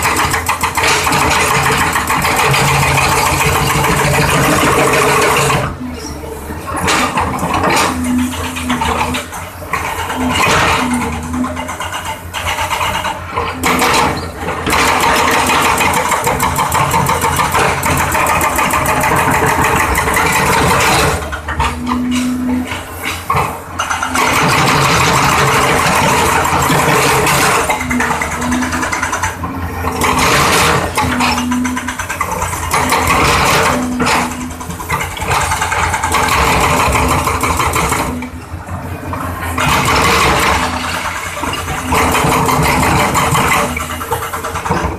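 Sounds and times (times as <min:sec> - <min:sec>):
hydraulic breaker hammering concrete: 0:00.0 - 0:05.8, 0:06.7 - 0:44.9
excavator engine running: 0:00.0 - 0:44.9.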